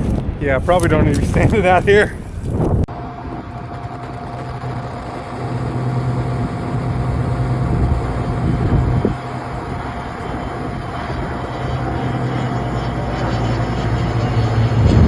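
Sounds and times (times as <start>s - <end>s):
plane engine droning: 0.0s - 15.0s.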